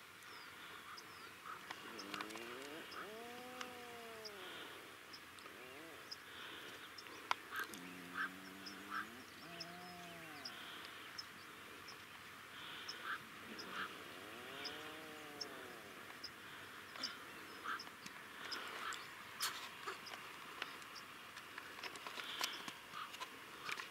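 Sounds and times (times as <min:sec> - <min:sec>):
puffins calling: 0:00.4 - 0:21.1.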